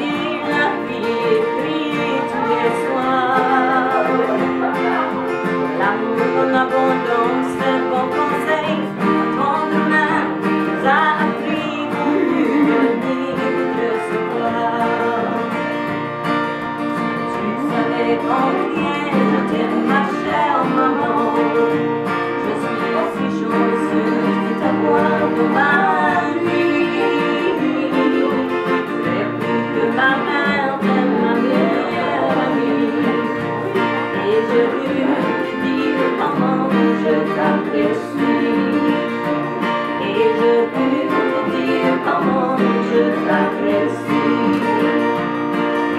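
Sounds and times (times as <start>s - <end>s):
woman singing: 0.0s - 16.0s, 17.2s - 45.9s
acoustic guitars strumming: 0.0s - 45.9s.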